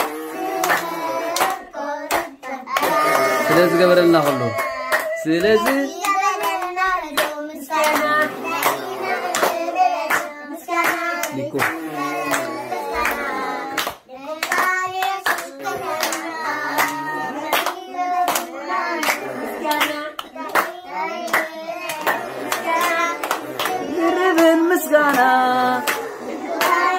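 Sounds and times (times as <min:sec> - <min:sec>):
children singing: 0:00.0 - 0:26.9
hands clapping: 0:00.0 - 0:26.9.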